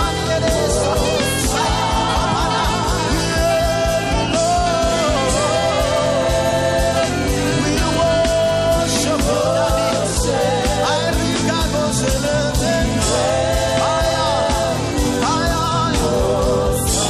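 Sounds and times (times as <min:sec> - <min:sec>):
live worship band music: 0:00.0 - 0:17.0.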